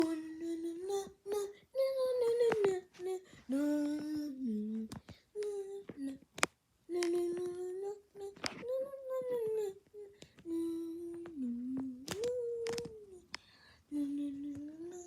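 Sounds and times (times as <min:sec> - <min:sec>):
person humming a tune: 0:00.0 - 0:06.2, 0:06.9 - 0:15.0.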